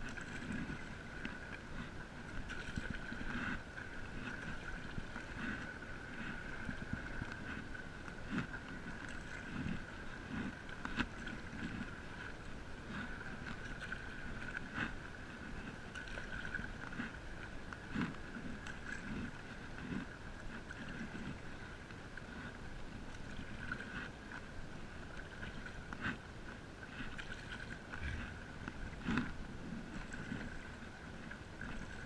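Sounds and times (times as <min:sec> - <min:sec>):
paddle splashing in water: 0:00.0 - 0:32.0.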